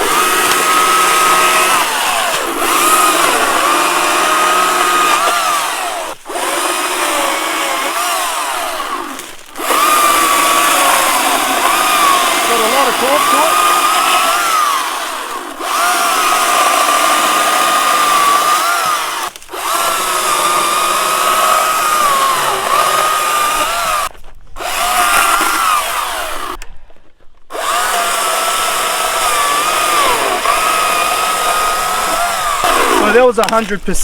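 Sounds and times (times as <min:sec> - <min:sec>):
electric chainsaw whine: 0:00.0 - 0:26.6, 0:27.5 - 0:34.0.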